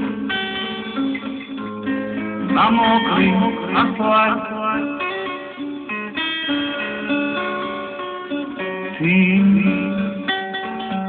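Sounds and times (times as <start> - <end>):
acoustic guitar plucked and strummed: 0.0 - 11.0.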